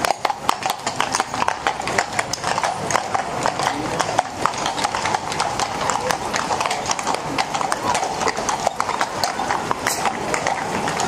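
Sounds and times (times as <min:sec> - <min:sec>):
hooves clip-clopping on stone: 0:00.0 - 0:11.0.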